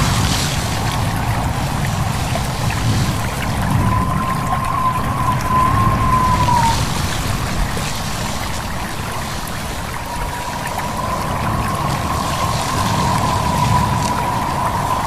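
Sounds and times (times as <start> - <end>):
stream babbling: 0.0 - 15.0
wind whistling: 0.0 - 15.0.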